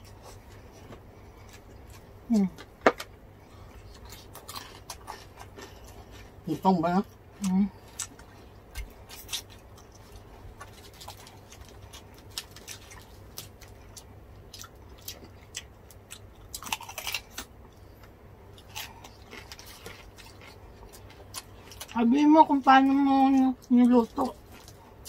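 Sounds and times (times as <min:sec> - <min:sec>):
crunching crispy fried pork: 0:00.0 - 0:25.0.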